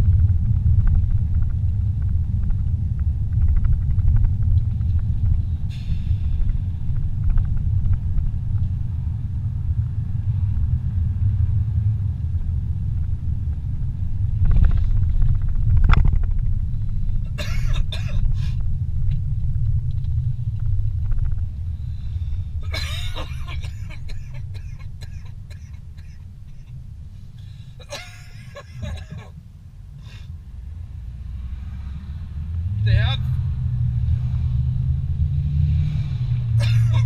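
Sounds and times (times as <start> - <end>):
car road and engine rumble: 0.0 - 37.0.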